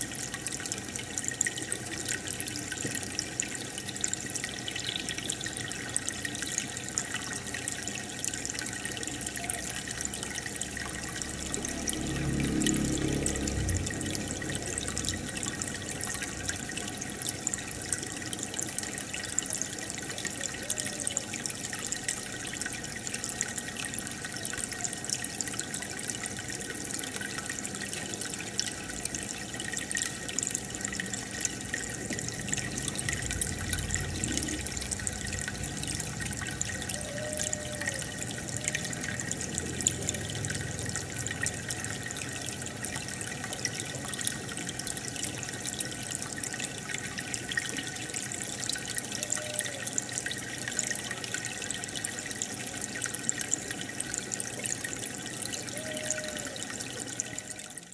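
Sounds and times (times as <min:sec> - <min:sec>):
aquarium water bubbling: 0:00.0 - 0:57.9.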